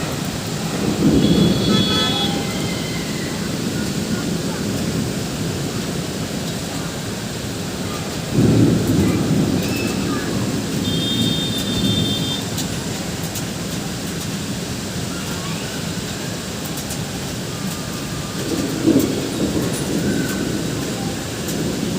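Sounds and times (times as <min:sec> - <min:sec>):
heavy rain falling: 0:00.0 - 0:21.9
thunder rumbling: 0:00.0 - 0:21.9.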